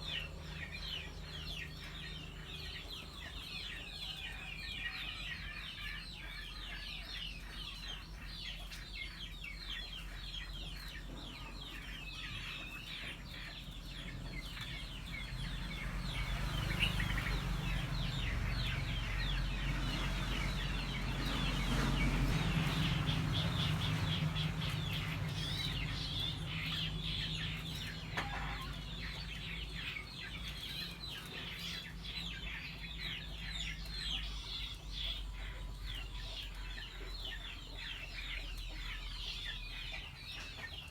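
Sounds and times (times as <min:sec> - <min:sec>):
many birds chirping: 0:00.0 - 0:40.9.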